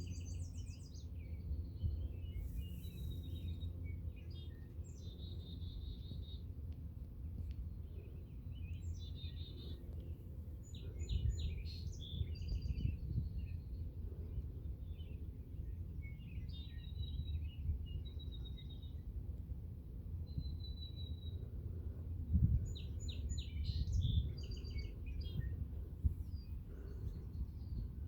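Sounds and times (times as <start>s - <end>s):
low background rumble: 0.0s - 28.0s
songbirds calling and singing: 0.0s - 28.0s.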